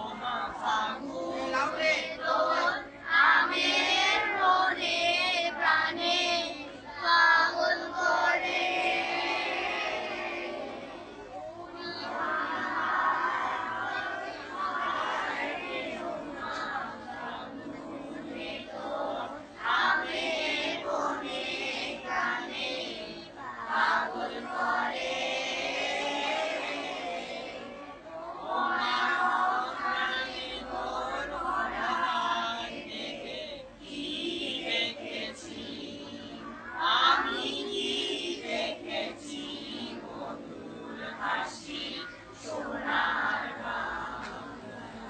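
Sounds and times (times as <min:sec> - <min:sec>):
children singing in unison: 0:00.0 - 0:45.0.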